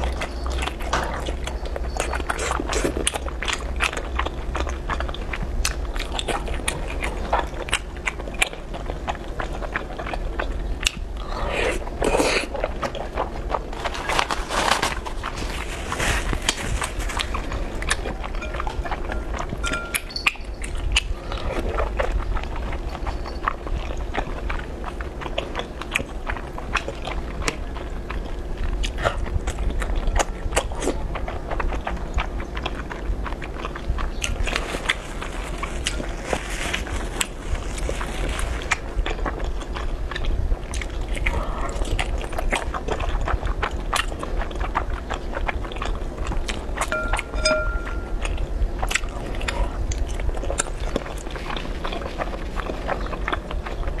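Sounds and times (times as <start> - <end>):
chewing noodles: 0.0 - 54.0.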